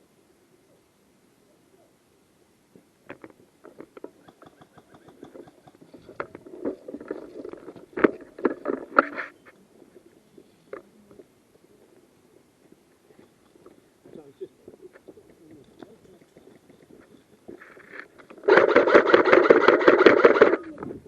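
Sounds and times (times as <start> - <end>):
crackles and rustling: 2.7 - 21.0.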